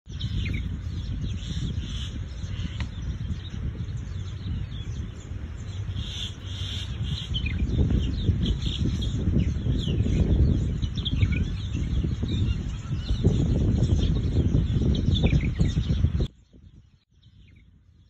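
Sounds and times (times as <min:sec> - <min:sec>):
songbirds chirping: 0:00.1 - 0:18.0.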